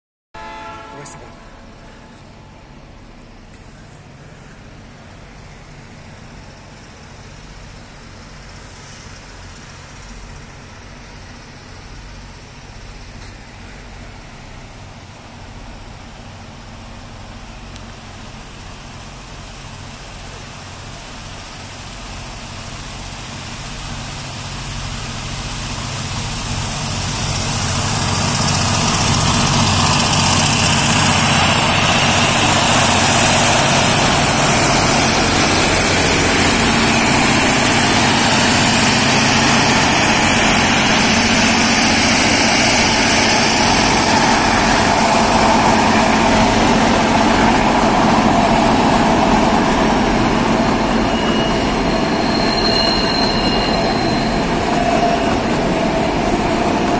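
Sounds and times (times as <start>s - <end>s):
diesel locomotive engine drone: 0.4s - 56.9s.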